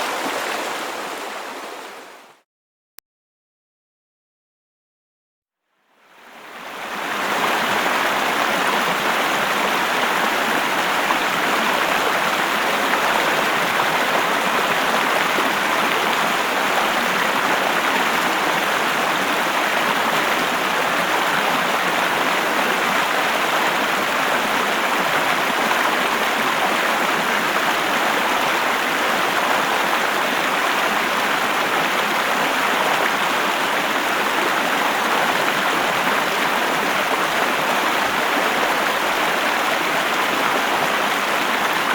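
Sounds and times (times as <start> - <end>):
river water flowing: 0.0 - 2.4, 6.1 - 41.9.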